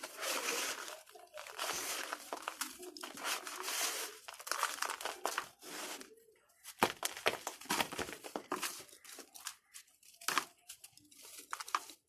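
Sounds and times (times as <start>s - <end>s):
dirt balls crunching and crumbling: 0.0s - 12.0s.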